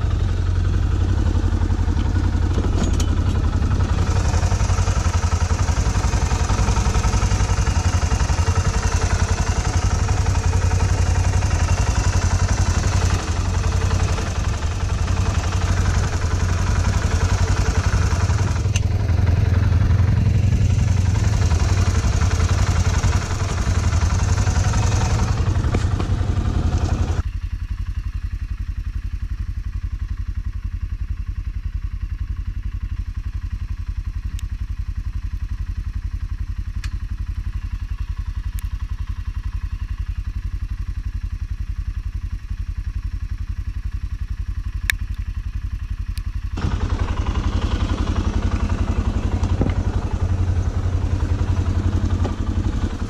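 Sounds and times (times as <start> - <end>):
atv engine idling: 0.0 - 53.0.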